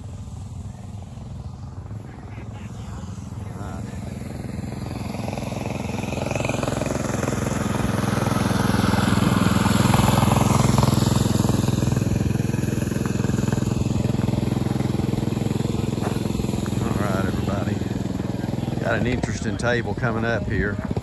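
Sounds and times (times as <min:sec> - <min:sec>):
mini bike engine passing: 0:00.0 - 0:21.0.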